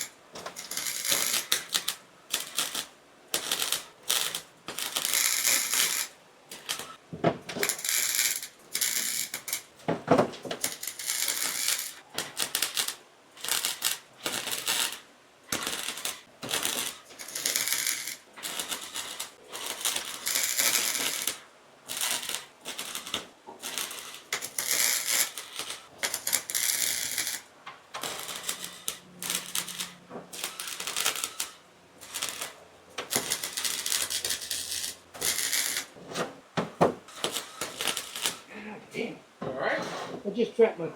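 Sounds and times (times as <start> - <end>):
welding arc crackling: 0.0 - 9.8, 10.4 - 36.2, 37.0 - 38.5.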